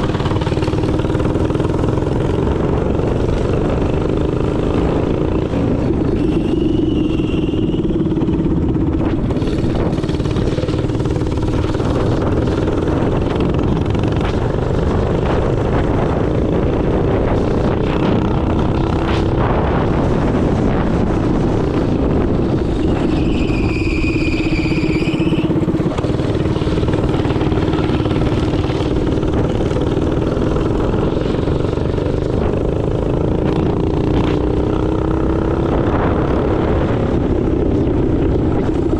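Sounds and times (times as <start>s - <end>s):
dense low rumble: 0.0s - 38.9s
minibike engine running: 0.0s - 38.9s.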